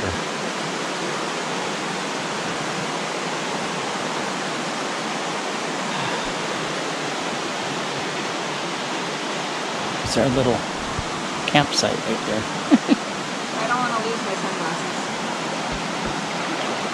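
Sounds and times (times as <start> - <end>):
creek water rushing: 0.0 - 16.9.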